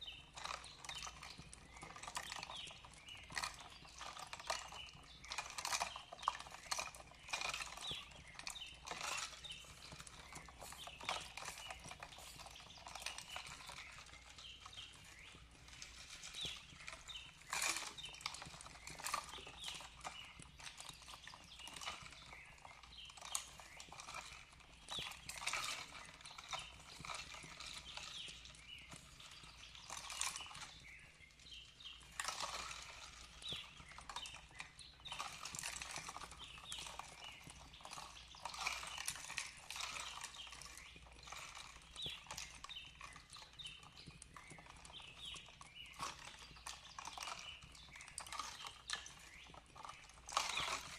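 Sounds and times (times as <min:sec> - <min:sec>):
birds chirping: 0:00.0 - 0:50.9
fireplace crackling and popping: 0:00.0 - 0:50.9.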